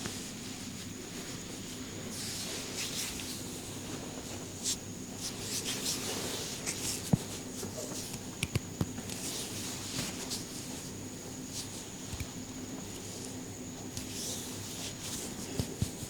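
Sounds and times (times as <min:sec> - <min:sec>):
hands rubbing hair and skin: 0:00.0 - 0:16.0.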